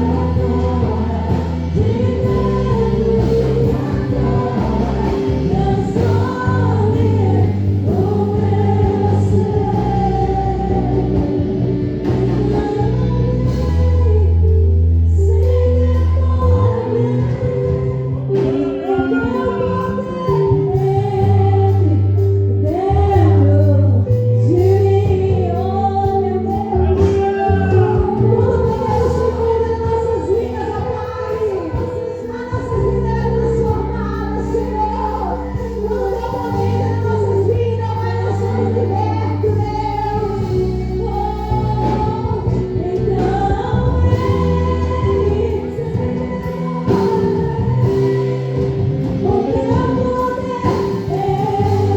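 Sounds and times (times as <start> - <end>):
people singing gospel song: 0.0 - 51.9.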